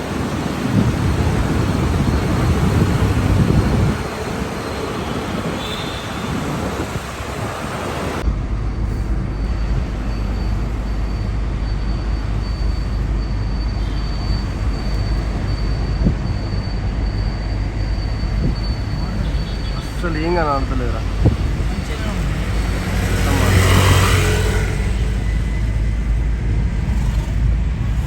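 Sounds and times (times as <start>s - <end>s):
metro train rumbling: 0.0s - 28.0s
road vehicle noise: 0.0s - 28.0s.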